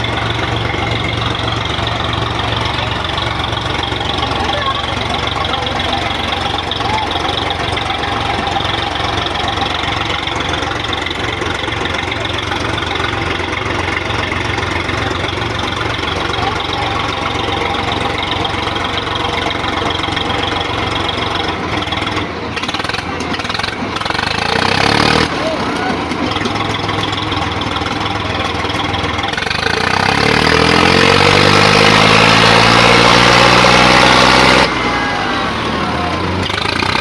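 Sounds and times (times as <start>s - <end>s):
diesel tractor engine running: 0.0s - 37.0s.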